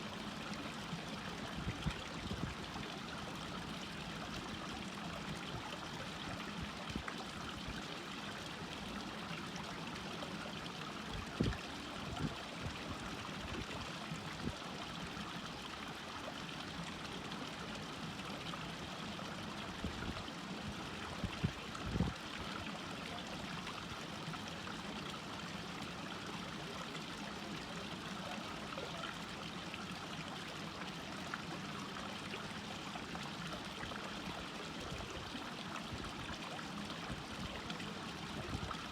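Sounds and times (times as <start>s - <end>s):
stream rushing and trickling: 0.0s - 38.9s.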